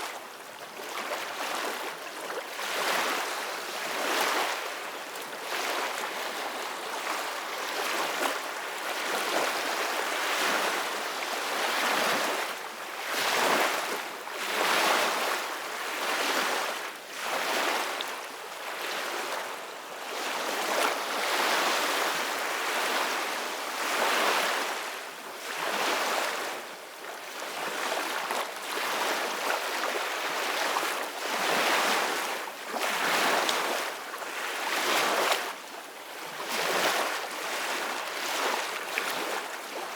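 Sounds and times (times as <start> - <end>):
soft ocean waves: 0.0 - 39.9.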